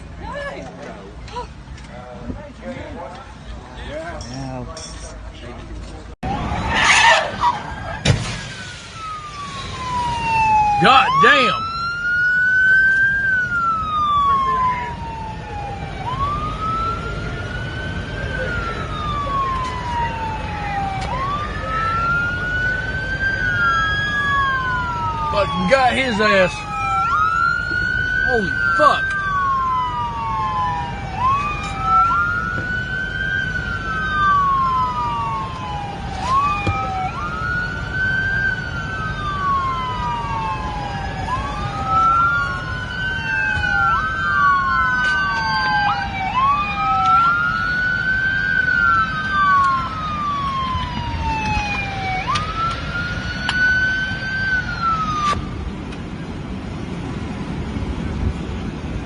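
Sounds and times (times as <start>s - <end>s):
low rumble of road traffic: 0.0s - 59.0s
emergency vehicle siren wailing: 6.2s - 59.0s.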